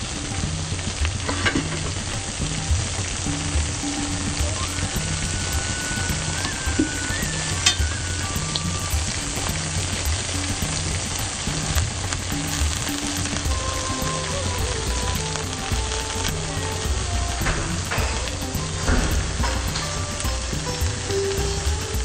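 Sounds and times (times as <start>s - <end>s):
food sizzling: 0.0s - 22.0s
low beat: 0.0s - 22.0s
soft background music: 0.0s - 22.0s.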